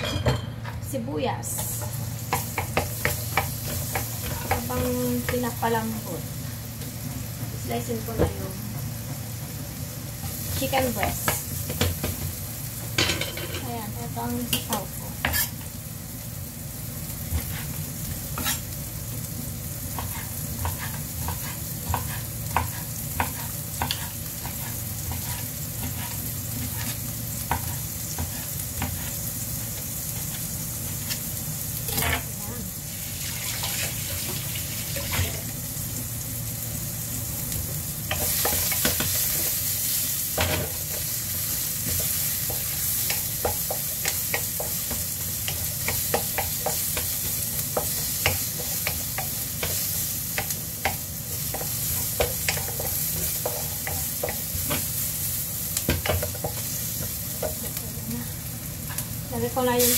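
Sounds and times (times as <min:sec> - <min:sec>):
onions sizzling in oil: 0:00.0 - 0:59.9.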